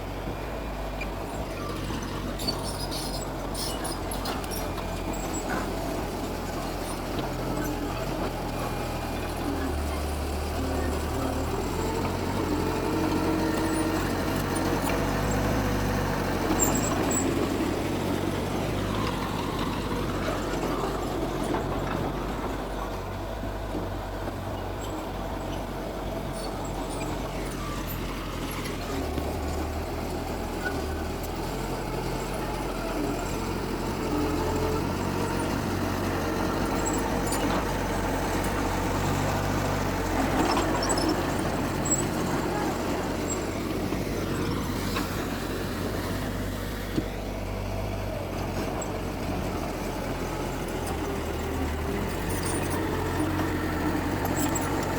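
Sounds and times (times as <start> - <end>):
heavy diesel machinery engines: 0.0 - 54.9.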